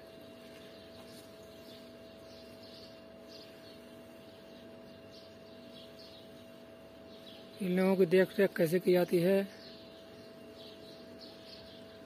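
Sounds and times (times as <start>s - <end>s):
small bird chirping: 0.0s - 12.0s
steady low hum: 0.0s - 12.0s.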